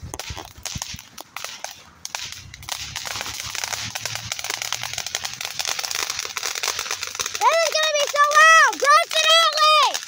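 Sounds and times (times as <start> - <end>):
firework hissing and crackling: 0.0 - 10.0.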